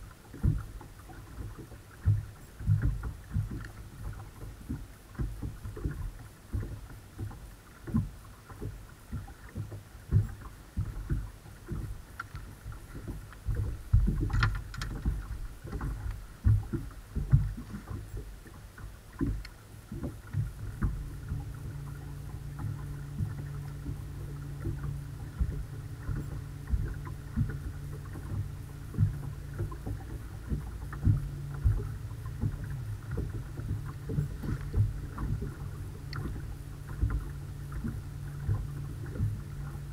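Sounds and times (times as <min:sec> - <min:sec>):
waves slapping boat hull: 0:00.0 - 0:39.9.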